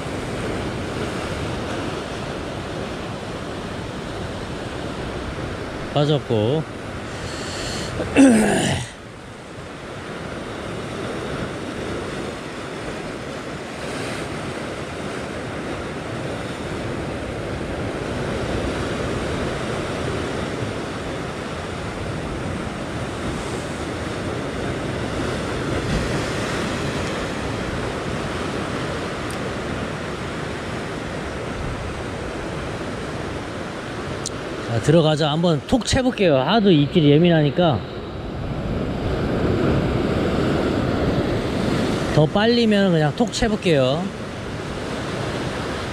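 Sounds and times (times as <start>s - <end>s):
ocean surf breaking on rocks: 0.0s - 45.9s.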